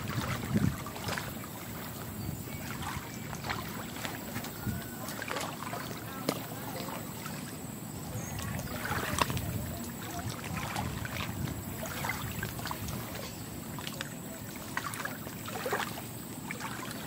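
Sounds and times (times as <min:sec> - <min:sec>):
water lapping over stones: 0:00.0 - 0:17.0.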